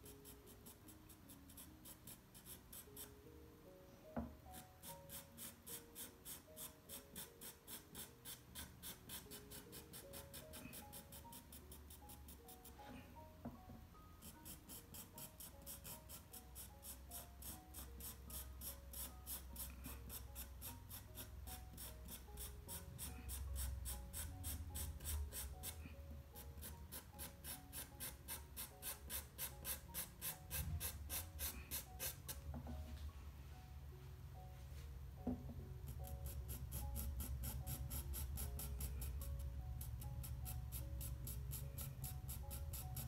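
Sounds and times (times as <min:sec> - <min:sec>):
pencil scratching on paper: 0:00.0 - 0:03.2, 0:04.5 - 0:13.0, 0:14.2 - 0:32.4, 0:35.8 - 0:39.2, 0:39.8 - 0:43.0
soft background music: 0:00.0 - 0:43.0.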